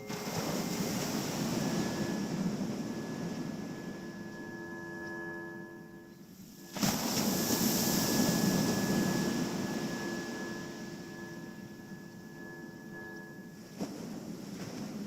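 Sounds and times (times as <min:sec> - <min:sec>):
synthesizer drone: 0:00.0 - 0:14.9.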